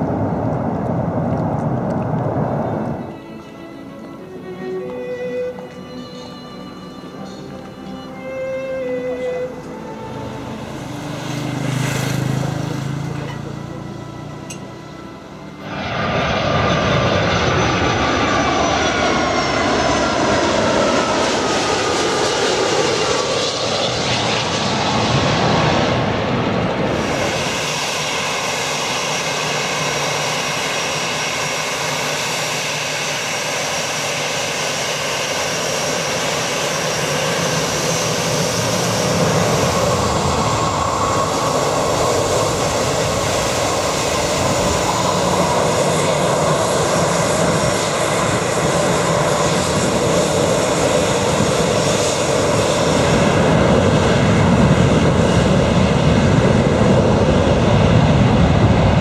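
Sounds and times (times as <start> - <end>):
jet engines rumbling: 0.0 - 59.0
jet engines whining: 0.0 - 59.0.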